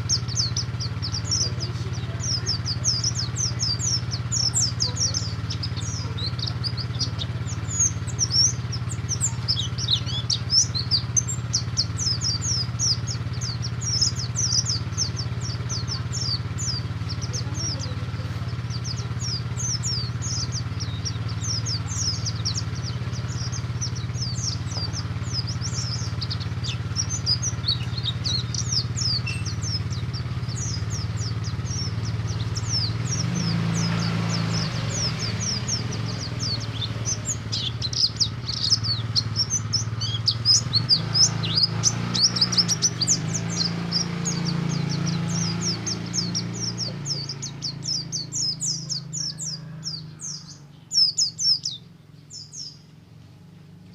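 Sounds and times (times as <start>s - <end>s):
bird singing high chirps: 0.0s - 53.3s.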